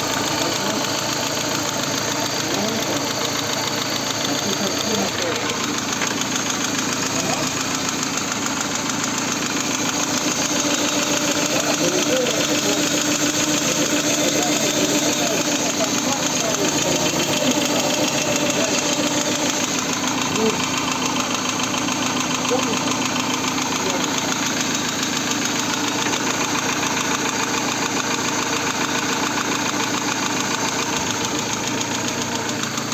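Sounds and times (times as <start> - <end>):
engine running with rapid knock: 0.0 - 32.9.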